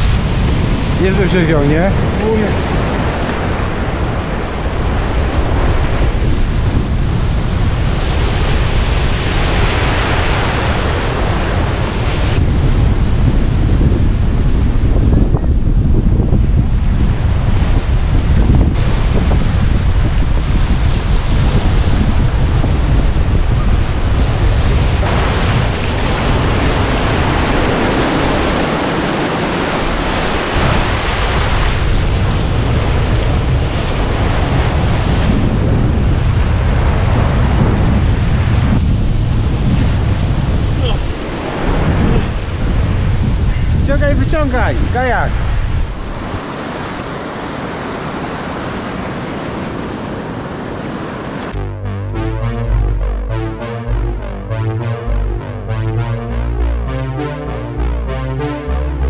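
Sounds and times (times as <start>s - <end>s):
surf breaking on beach: 0.0s - 51.6s
wind buffeting microphone: 0.0s - 53.1s.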